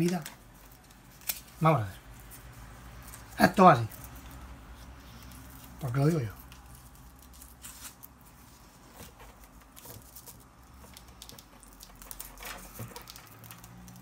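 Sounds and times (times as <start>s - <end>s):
strap rustling and scratching: 0.0s - 14.0s.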